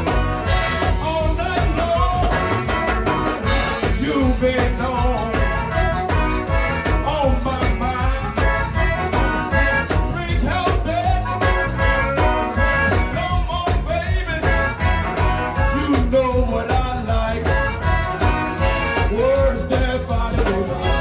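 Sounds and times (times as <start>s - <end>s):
drum kit: 0.0s - 21.0s
electric bass: 0.0s - 21.0s.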